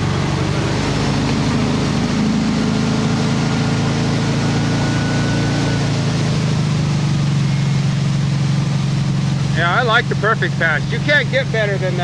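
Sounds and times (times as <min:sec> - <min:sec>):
boat engine running steadily: 0:00.0 - 0:12.0.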